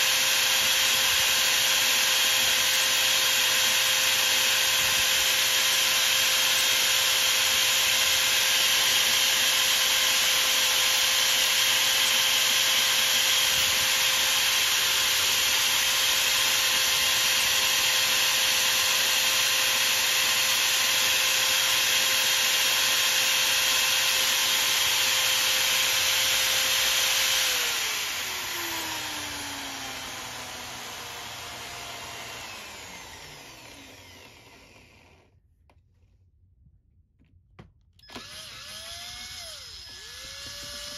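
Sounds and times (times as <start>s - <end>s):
power drill whine: 0.0s - 35.4s, 38.0s - 40.9s.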